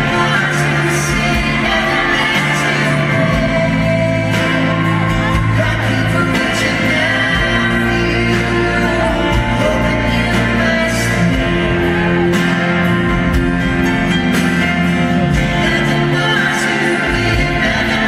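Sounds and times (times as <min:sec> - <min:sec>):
man and woman singing: 0:00.0 - 0:13.4, 0:15.3 - 0:18.0
acoustic guitar: 0:00.0 - 0:18.0
band with steady beat: 0:00.0 - 0:18.0.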